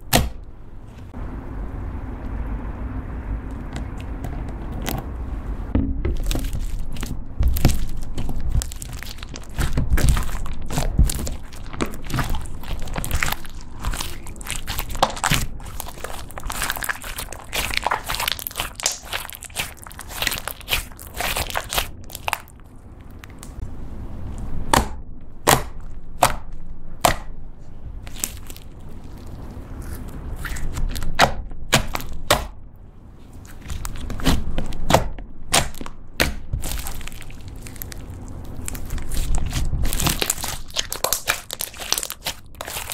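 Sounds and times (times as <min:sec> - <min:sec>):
slime squelching: 0:06.0 - 0:23.7, 0:24.3 - 0:42.9.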